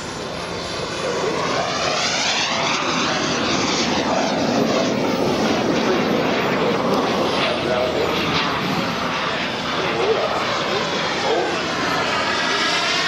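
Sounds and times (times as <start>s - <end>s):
model jet turbine engine: 0.0s - 13.0s.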